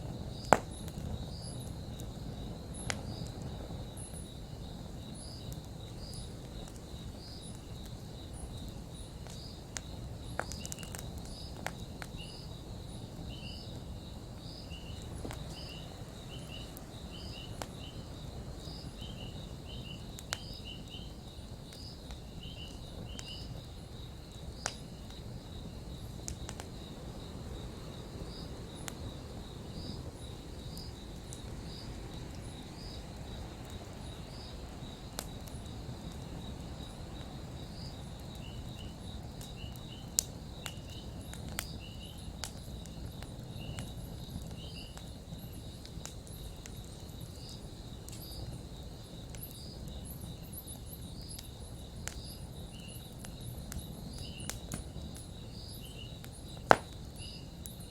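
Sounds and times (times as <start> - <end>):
campfire crackling and popping: 0.0 - 57.9
crickets chirping: 0.0 - 57.9
high insect trill: 0.0 - 57.9.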